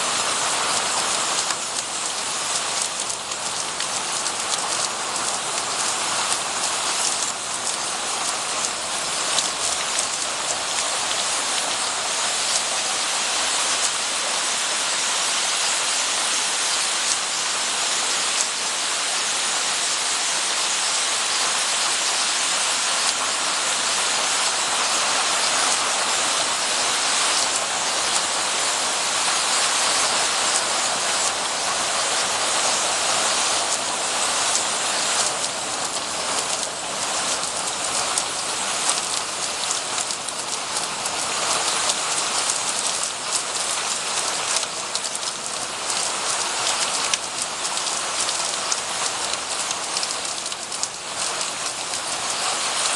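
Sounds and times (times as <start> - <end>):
water falling and splashing: 0.0 - 52.9.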